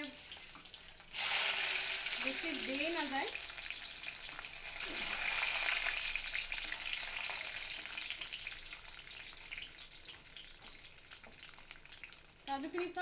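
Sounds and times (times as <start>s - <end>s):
nuts sizzling in hot oil: 0.0s - 13.0s.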